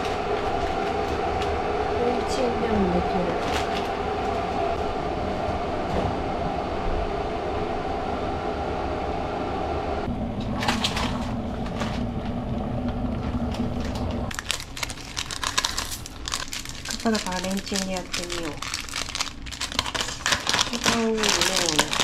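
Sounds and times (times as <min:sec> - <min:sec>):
mechanical rumble with hum: 0:00.0 - 0:22.0.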